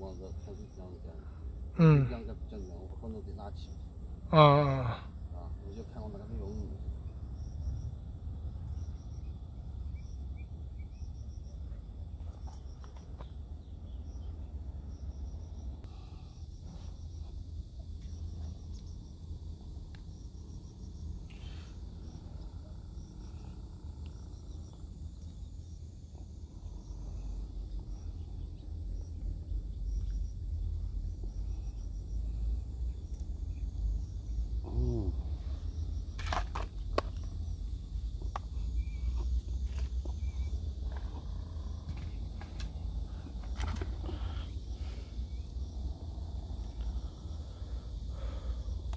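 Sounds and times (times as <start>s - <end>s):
insect chirps: 0.0s - 48.9s
steady low rumble: 5.0s - 48.9s.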